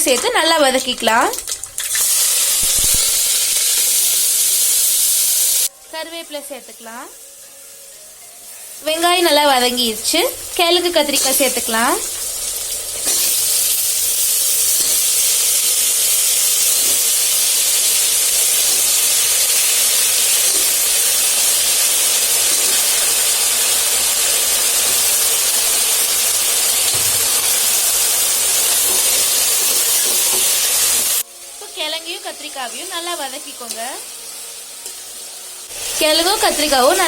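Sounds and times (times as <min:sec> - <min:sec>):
vegetables sizzling in hot oil: 0:00.0 - 0:37.0.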